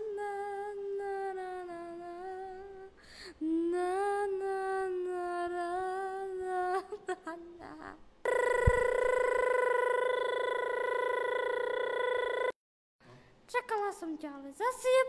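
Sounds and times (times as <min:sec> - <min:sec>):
woman singing wordless tune: 0:00.0 - 0:12.6.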